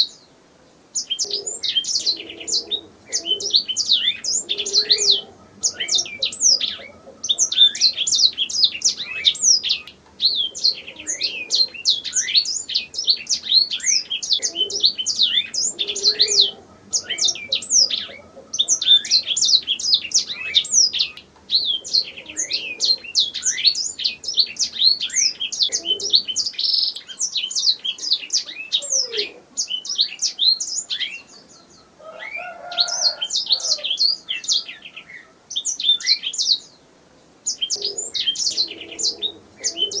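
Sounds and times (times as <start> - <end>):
canary singing trills: 0.9 - 40.0.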